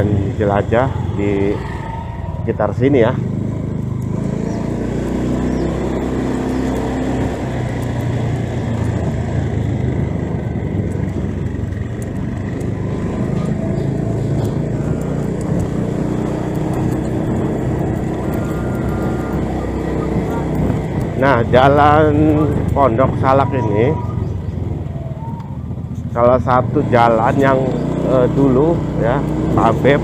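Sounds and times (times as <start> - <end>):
motor scooter engine running: 0.0 - 30.0.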